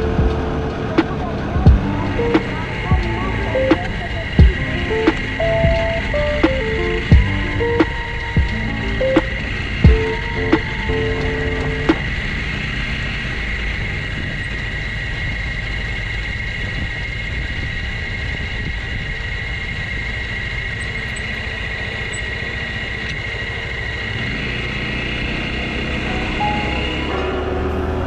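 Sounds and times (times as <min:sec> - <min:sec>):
motorcycle engine rumble: 0:00.0 - 0:28.0
road and wind noise: 0:00.0 - 0:28.0
steady whine: 0:00.0 - 0:28.0.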